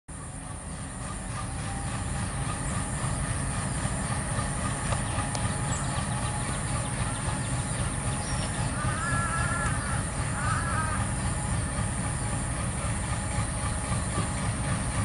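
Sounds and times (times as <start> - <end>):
locomotive engines rumbling: 0.1 - 15.0.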